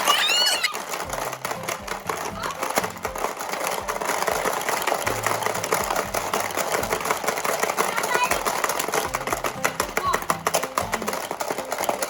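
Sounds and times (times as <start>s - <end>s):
background music: 0.0s - 12.0s
beads rattling: 0.0s - 12.0s
plastic game clattering: 0.0s - 12.0s.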